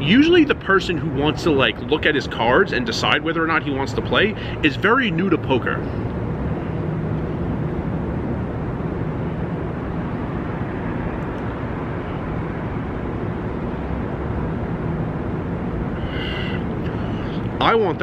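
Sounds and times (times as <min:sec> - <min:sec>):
rumbling background noise: 0:00.0 - 0:18.0.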